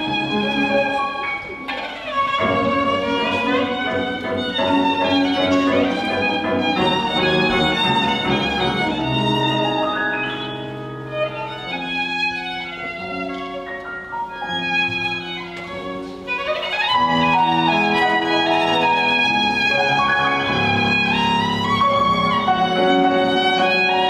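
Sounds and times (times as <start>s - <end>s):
grand piano accompaniment: 0.0s - 24.0s
violin melody with vibrato: 0.0s - 24.0s.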